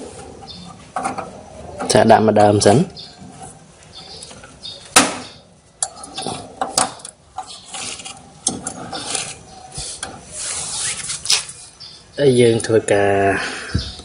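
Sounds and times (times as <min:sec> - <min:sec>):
wires rubbing and rustling: 0:00.0 - 0:05.0, 0:05.8 - 0:12.7.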